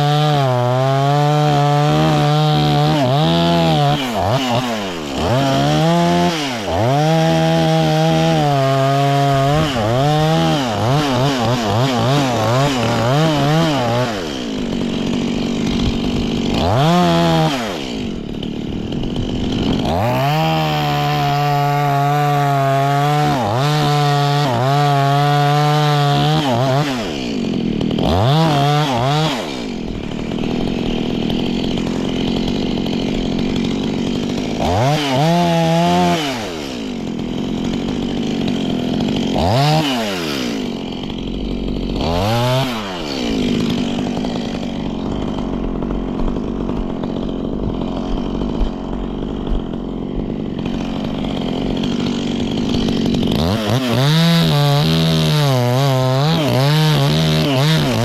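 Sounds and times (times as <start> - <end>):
chainsaw cutting and revving: 0.0 - 58.0.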